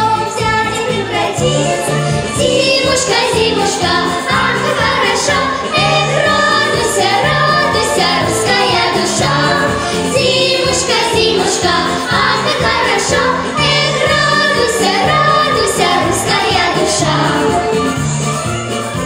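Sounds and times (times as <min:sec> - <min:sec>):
children singing: 0:00.0 - 0:18.1
instrumental music with bass line: 0:00.0 - 0:19.0.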